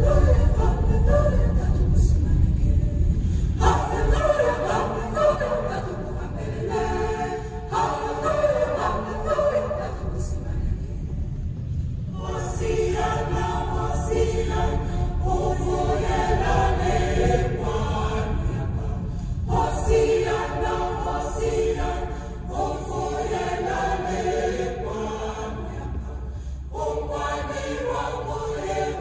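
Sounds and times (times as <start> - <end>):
unaccompanied choir singing: 0.0 - 11.4, 12.0 - 29.0
low rumble: 0.0 - 29.0.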